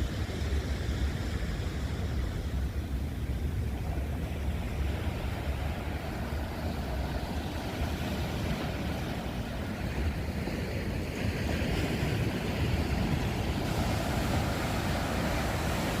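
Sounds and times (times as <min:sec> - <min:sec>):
sea waves on rocky shore: 0:00.0 - 0:16.0
wind buffeting microphone: 0:00.0 - 0:16.0.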